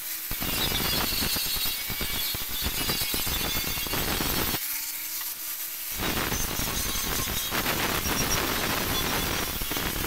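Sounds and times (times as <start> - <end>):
angle grinder grinding metal: 0.0 - 10.0.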